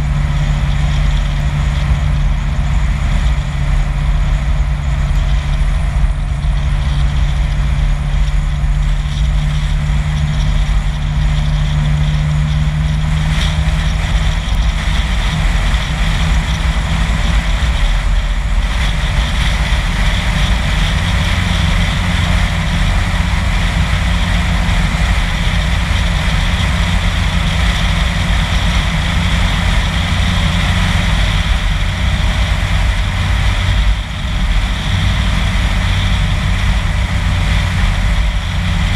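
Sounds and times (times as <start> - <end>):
car engine hum: 0.0 - 38.9
tyre and road noise: 0.0 - 38.9.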